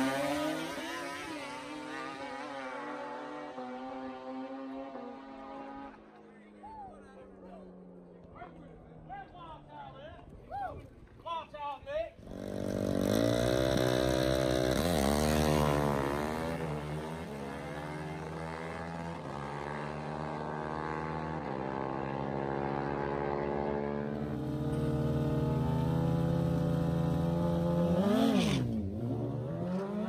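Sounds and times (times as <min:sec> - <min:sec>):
motorcycle engines revving: 0:00.0 - 0:09.7, 0:12.2 - 0:30.0.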